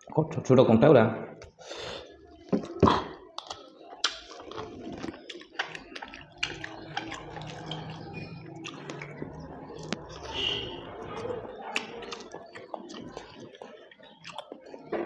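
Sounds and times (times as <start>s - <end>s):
chewing mouth clicks and smacks: 2.4s - 15.0s.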